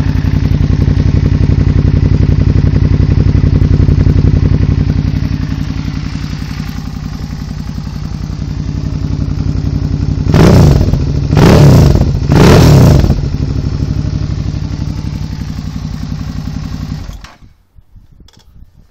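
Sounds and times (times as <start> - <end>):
motorcycle engine idling and revving: 0.0 - 18.9.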